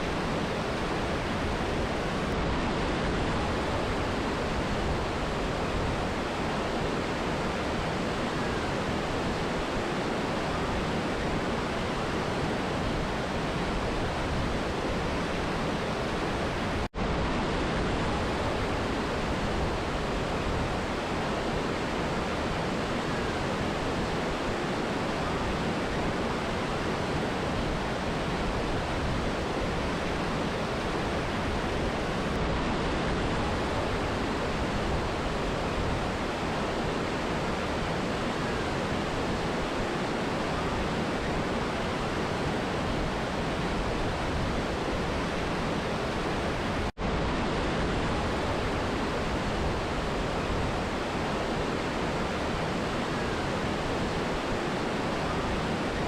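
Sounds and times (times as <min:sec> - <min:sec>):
river and waterfall rushing: 0:00.0 - 0:56.0.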